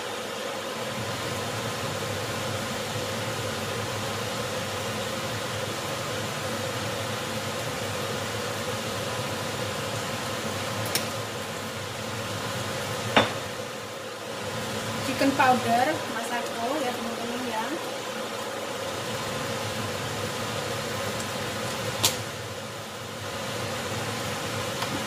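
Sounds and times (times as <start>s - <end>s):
fan whirring: 0.0s - 25.0s.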